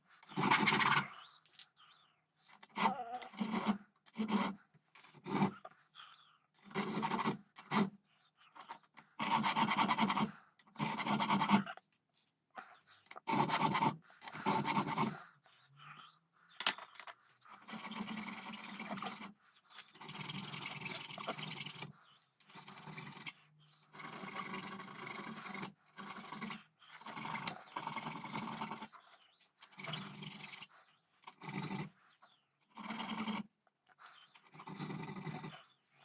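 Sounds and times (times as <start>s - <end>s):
hand file rasping on metal: 2.6s - 5.9s, 6.6s - 11.8s, 12.6s - 35.7s.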